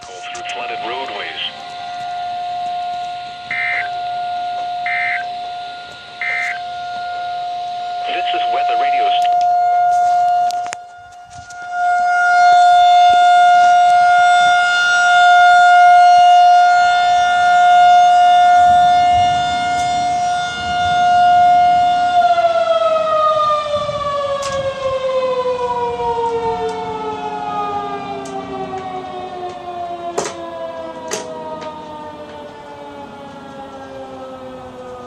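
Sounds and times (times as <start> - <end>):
rotating warning siren: 0.0 - 35.0.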